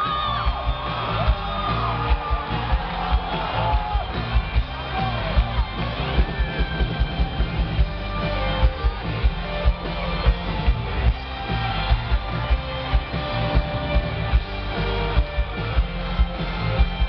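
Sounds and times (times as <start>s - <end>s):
heavy drum beat: 0.0s - 17.0s
strummed electric guitar: 0.0s - 17.0s.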